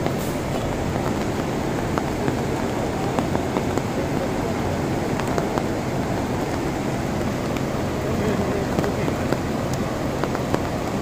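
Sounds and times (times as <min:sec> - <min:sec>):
river rushing through rapids: 0:00.0 - 0:11.0.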